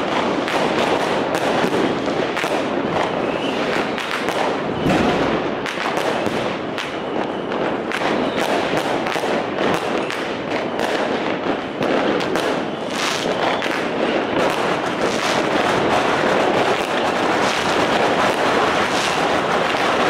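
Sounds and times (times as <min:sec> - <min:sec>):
firecrackers and fireworks banging: 0:00.0 - 0:20.0.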